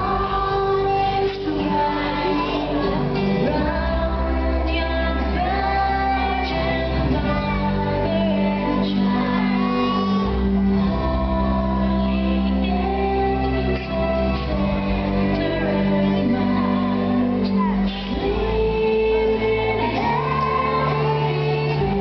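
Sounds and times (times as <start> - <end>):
children singing together: 0.0 - 22.0
instrumental accompaniment with bass: 0.0 - 22.0.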